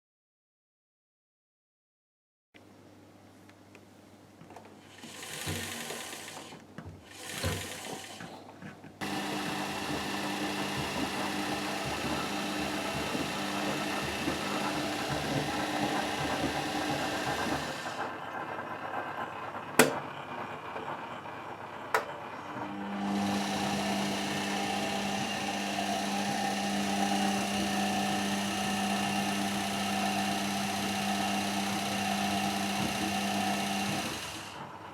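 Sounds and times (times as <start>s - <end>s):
washing machine hum and rattle: 4.4s - 34.9s.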